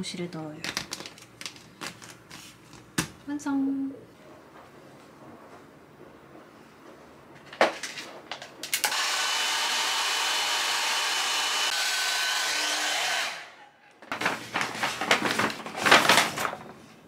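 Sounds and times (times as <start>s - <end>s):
appliance motor and fan running: 0.0s - 17.0s.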